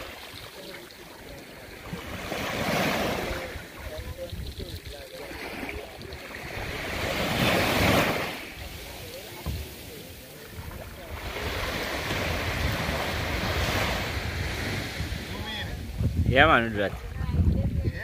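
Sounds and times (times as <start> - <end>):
sea surf: 0.0 - 18.0
wind on microphone: 1.6 - 18.0.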